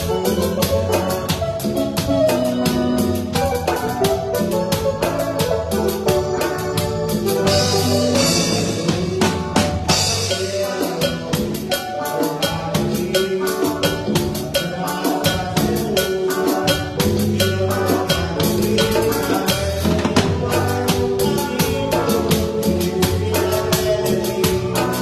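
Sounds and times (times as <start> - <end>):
band playing: 0.0 - 25.0
drum beat: 0.0 - 25.0
keyboard and bass tones: 0.0 - 25.0.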